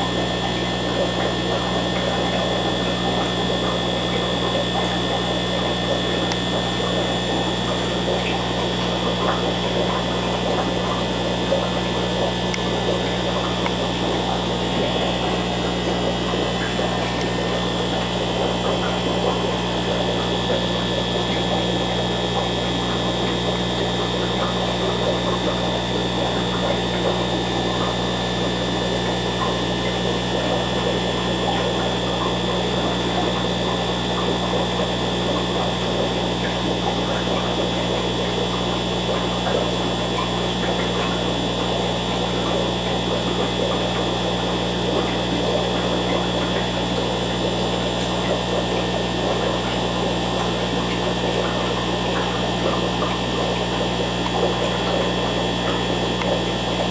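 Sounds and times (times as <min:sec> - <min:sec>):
air pump electrical hum: 0:00.0 - 0:56.9
aquarium filter bubbling: 0:00.0 - 0:56.9.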